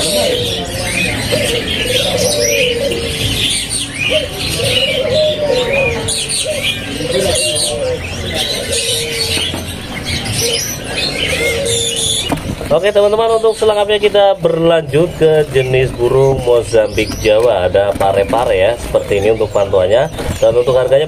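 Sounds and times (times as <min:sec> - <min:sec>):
doves cooing: 0:00.0 - 0:21.0
small birds chirping: 0:00.0 - 0:21.0.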